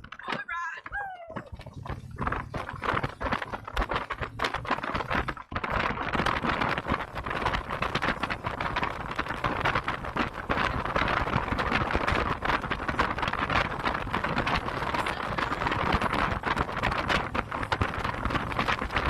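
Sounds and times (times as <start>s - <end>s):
wind buffeting microphone: 0.0s - 19.0s
motorcycle road and engine noise: 1.3s - 19.0s.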